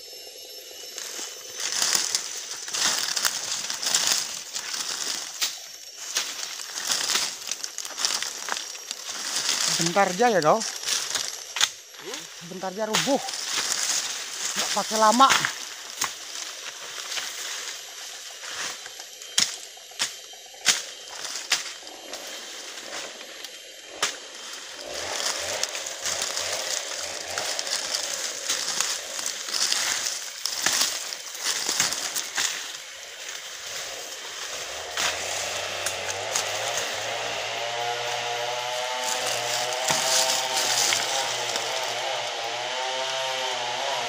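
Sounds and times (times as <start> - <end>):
chainsaw idling and revving: 0.0 - 44.0
rustling through undergrowth: 0.8 - 44.0
twigs snapping: 1.0 - 12.0, 12.6 - 17.8, 18.4 - 44.0.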